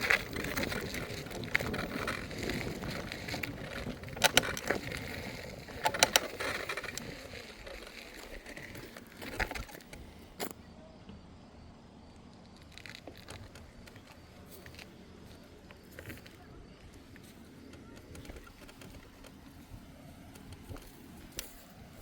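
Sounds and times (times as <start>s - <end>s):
scooter frame rattling: 0.0s - 10.6s, 12.4s - 22.0s
electric scooter rolling: 0.0s - 10.8s, 11.6s - 22.0s.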